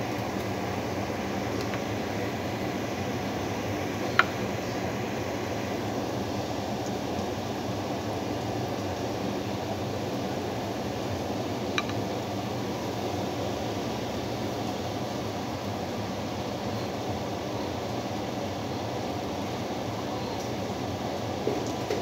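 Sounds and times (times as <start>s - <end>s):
range hood fan running: 0.0s - 22.0s.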